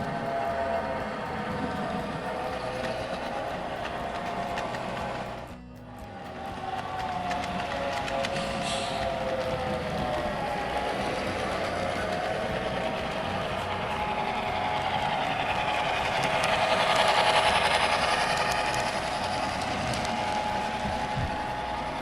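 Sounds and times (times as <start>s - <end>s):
model locomotive running: 0.0s - 22.0s.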